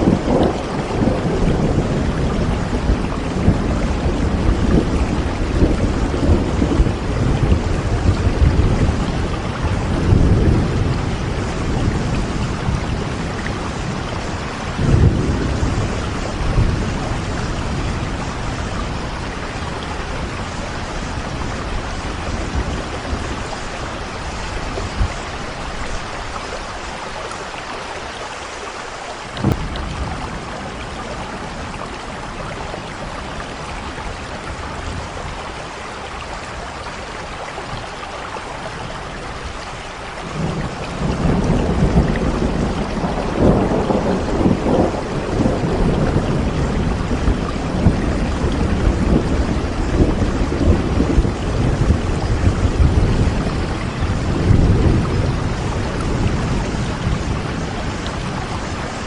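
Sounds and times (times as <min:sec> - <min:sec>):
thunder rumbling: 0:00.0 - 0:27.4, 0:29.3 - 0:37.9, 0:38.6 - 0:59.0
steady rain: 0:00.0 - 0:59.0.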